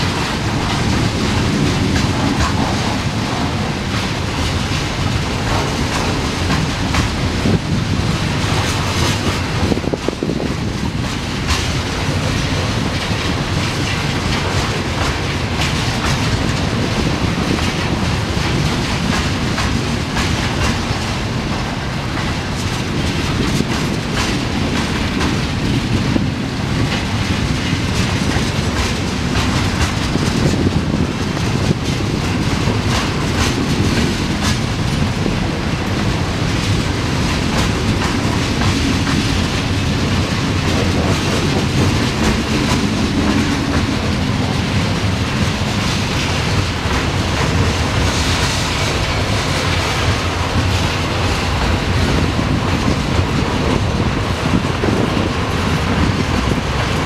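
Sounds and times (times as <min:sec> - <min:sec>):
freight train rumbling: 0:00.0 - 0:57.0
wheels clacking over rail joints: 0:00.0 - 0:57.0.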